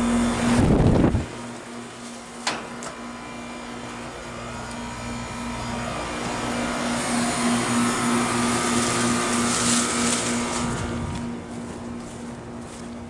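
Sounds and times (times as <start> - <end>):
fan noise: 0.0 - 13.0
heat pump compressor hum: 0.0 - 13.0.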